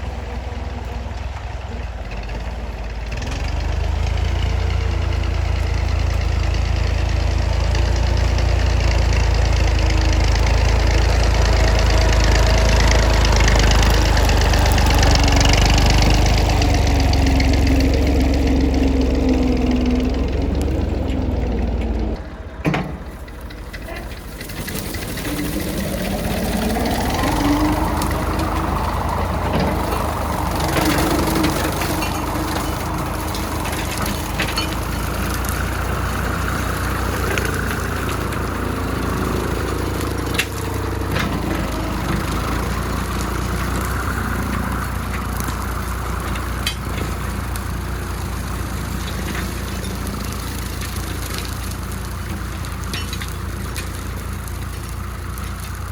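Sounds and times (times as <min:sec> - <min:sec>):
tractor engine running under load: 0:00.0 - 0:55.9
brush cutter whine: 0:03.2 - 0:55.9.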